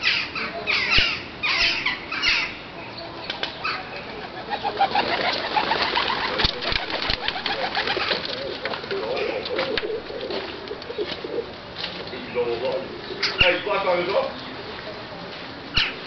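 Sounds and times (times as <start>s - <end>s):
birds chirping and chattering: 0.0s - 16.0s.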